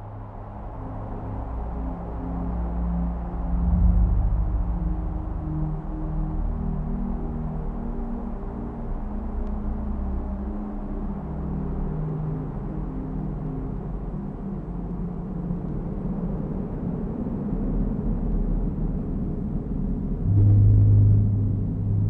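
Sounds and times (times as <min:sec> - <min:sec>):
dark droning ambient music: 0:00.0 - 0:22.0.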